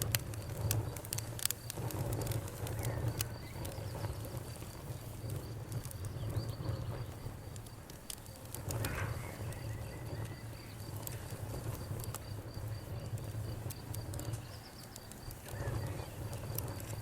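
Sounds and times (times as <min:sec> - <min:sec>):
bonfire crackling: 0:00.0 - 0:17.0
crickets chirping: 0:00.0 - 0:17.0
steady low rumble: 0:00.0 - 0:17.0.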